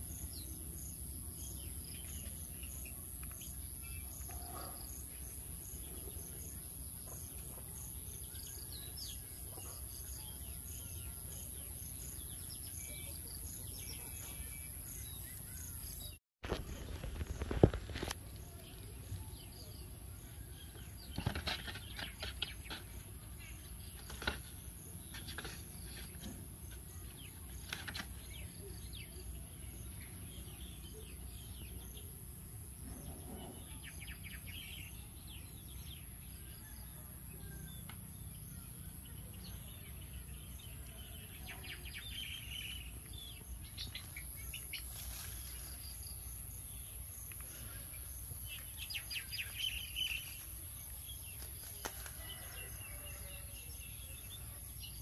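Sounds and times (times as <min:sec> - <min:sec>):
outdoor background noise: 0:00.0 - 0:55.0.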